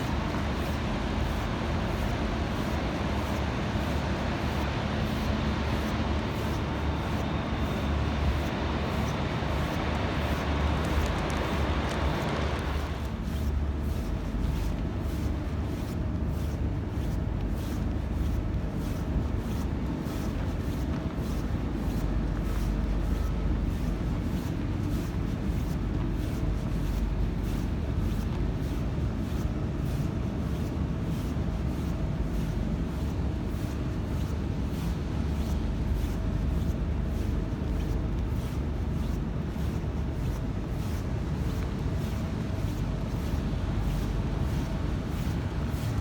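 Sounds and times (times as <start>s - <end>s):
low mechanical rumble and hum: 0.0s - 46.0s.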